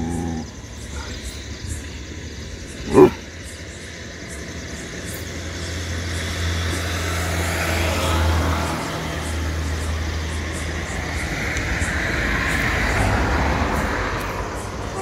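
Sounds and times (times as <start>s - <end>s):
vehicle engine hum passing: 0.0s - 15.0s.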